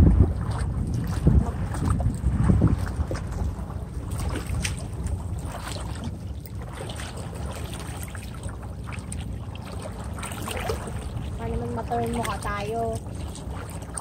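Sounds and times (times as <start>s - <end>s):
short splashes: 0.0s - 14.0s
water lapping around boat: 0.0s - 14.0s
wind buffeting microphone: 0.0s - 14.0s.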